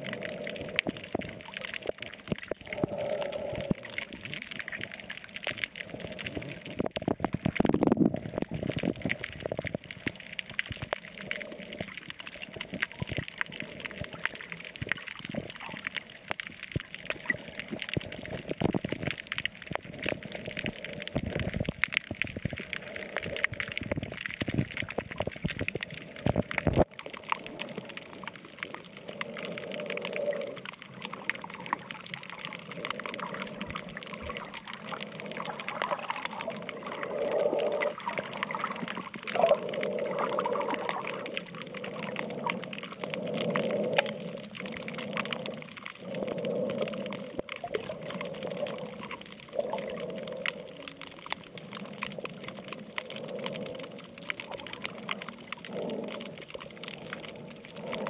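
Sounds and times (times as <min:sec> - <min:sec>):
fast crackling clicks: 0:00.0 - 0:58.0
underwater water wash: 0:00.0 - 0:58.0.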